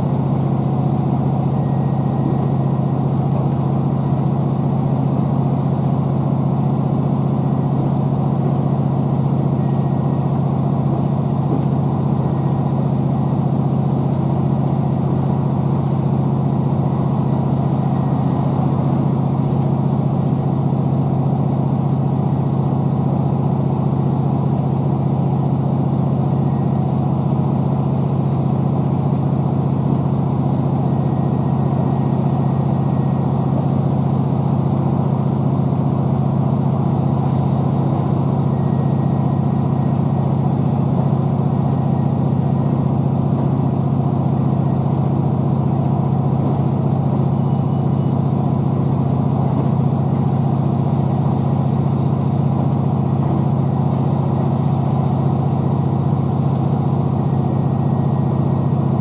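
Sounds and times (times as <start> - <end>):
train diesel engine drone: 0.0 - 59.0.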